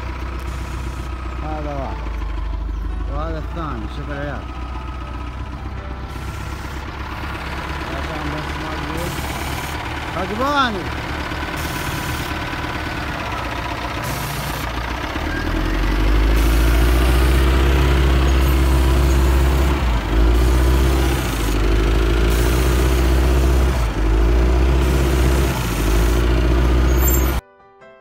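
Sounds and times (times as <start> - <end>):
heavy vehicle engine revving: 0.0 - 27.4.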